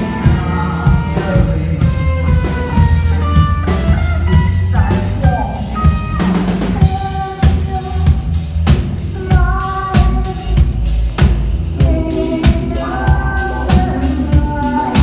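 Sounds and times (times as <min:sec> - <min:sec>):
person singing: 0:00.0 - 0:08.4, 0:09.0 - 0:10.8, 0:11.8 - 0:15.0
drum kit striking: 0:00.0 - 0:15.0
live band playing: 0:00.0 - 0:15.0.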